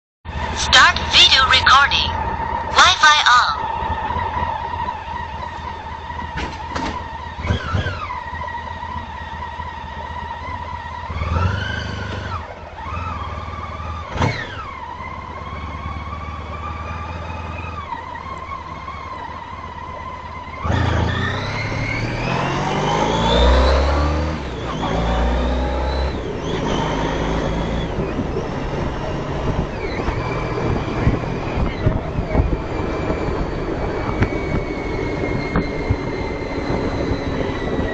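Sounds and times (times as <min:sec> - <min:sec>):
motorcycle engine whining: 0:03.6 - 0:23.4, 0:24.2 - 0:37.9.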